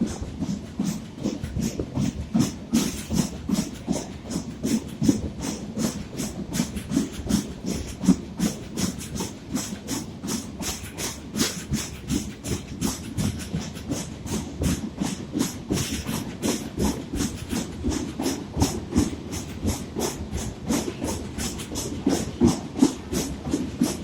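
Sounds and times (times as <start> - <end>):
rumble and hiss of running train: 0.0 - 24.0
train wheels clattering on track: 0.0 - 24.0.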